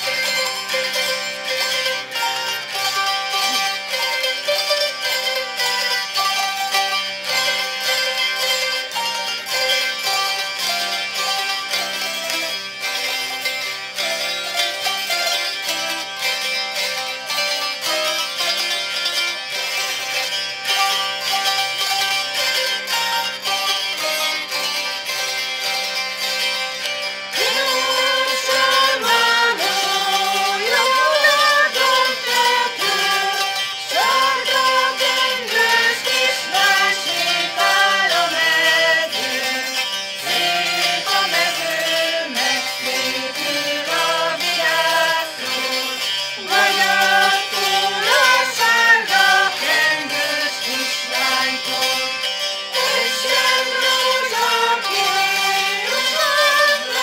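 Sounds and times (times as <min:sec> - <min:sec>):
folk song with singing: 0:00.0 - 0:24.5, 0:26.8 - 0:57.0.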